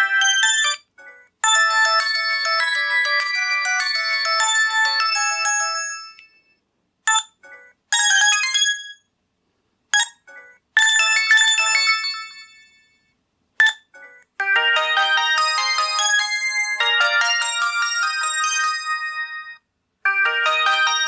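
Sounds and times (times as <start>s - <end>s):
phone ringtone melodies: 0.0s - 9.0s, 10.0s - 13.0s, 13.6s - 21.0s.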